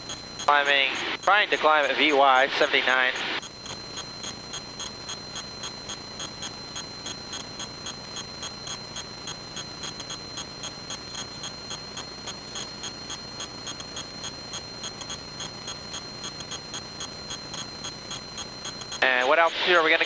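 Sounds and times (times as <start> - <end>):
high-pitched electrical whine: 0.0 - 20.0.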